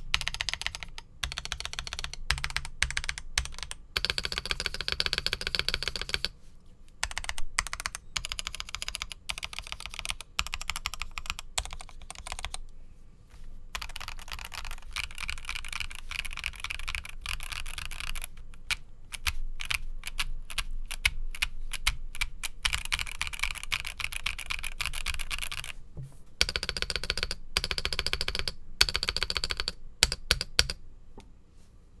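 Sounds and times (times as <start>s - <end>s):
mechanical keyboard typing: 0.0s - 6.3s, 7.0s - 12.6s, 13.8s - 25.8s, 26.4s - 30.8s.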